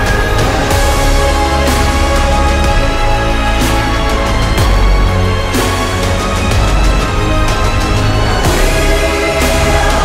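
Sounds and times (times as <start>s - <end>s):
credits theme music with bass: 0.0s - 10.0s.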